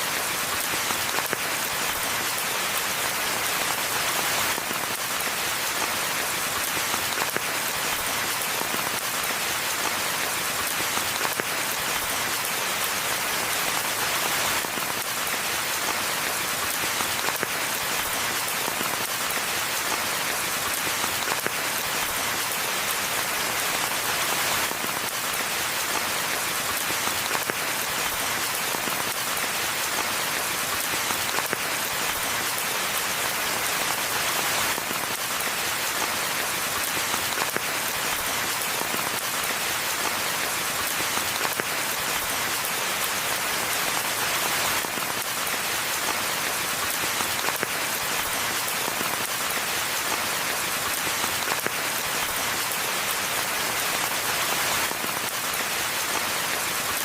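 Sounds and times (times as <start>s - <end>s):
rain on ground and leaves: 0.0s - 57.0s.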